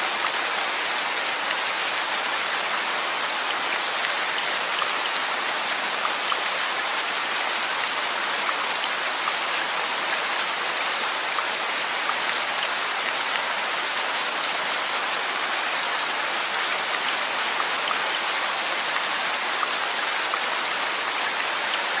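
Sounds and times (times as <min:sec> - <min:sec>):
rain pattering on surfaces: 0:00.0 - 0:22.0.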